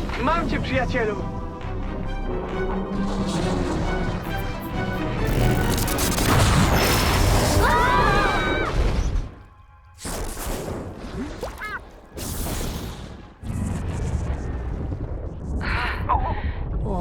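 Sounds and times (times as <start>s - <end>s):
dramatic score: 0.0s - 17.0s.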